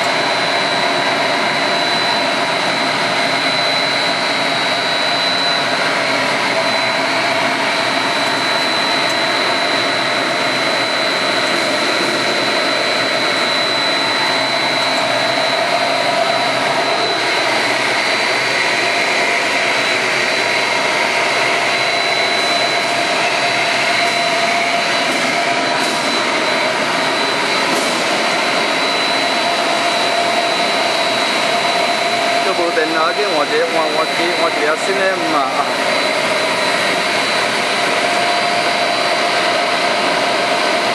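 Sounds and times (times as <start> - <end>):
rushing machine noise: 0.0 - 40.9
steady high whine: 0.0 - 40.9.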